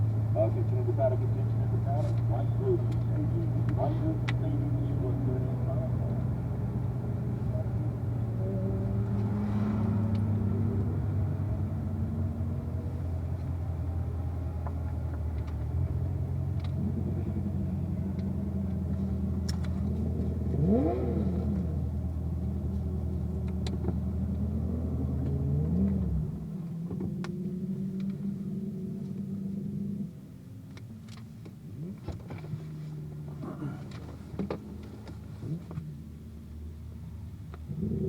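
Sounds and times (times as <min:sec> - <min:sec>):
car engine running: 0:00.0 - 0:38.0.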